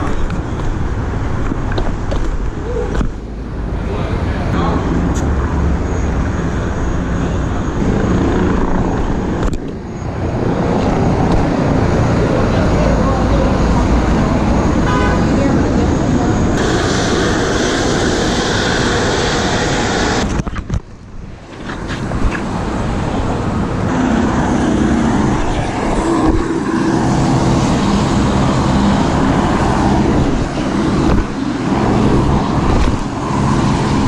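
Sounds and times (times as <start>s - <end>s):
city street traffic: 0.0s - 34.0s
engine hum: 0.0s - 34.0s.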